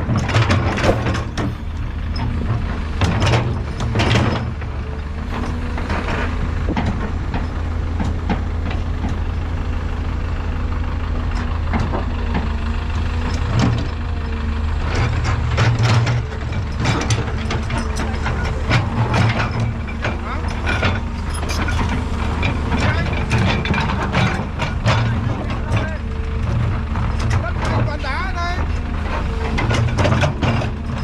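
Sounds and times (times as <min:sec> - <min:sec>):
metal clanks and knocks: 0:00.0 - 0:09.4, 0:14.8 - 0:31.0
diesel machinery droning: 0:00.0 - 0:31.0.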